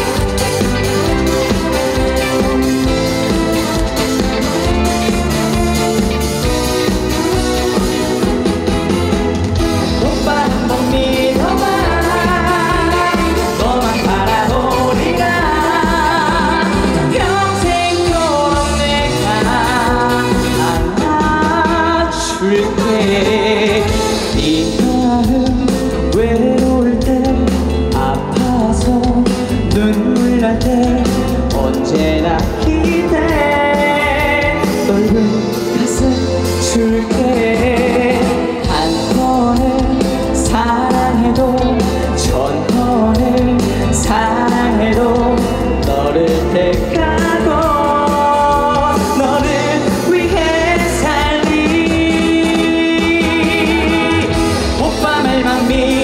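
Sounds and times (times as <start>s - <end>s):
band backing track with steady beat: 0.0s - 56.0s
man singing: 0.0s - 56.0s.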